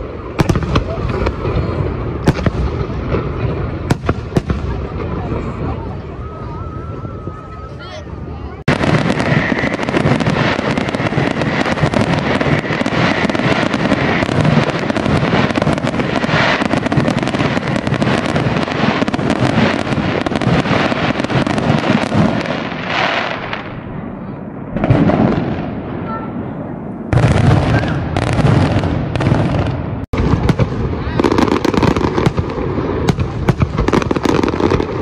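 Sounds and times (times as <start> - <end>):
fireworks crackling and popping: 0.0 - 35.0.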